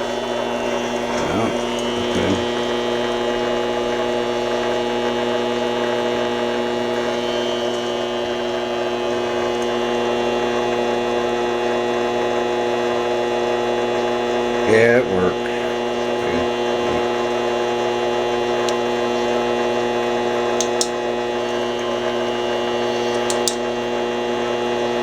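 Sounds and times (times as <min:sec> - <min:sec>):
lathe motor whining: 0:00.0 - 0:25.0.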